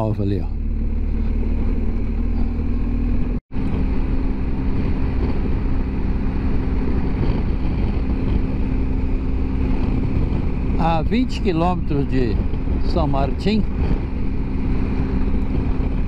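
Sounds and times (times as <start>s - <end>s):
motorcycle engine cruising: 0.0s - 16.0s
wind and road rush: 0.0s - 16.0s.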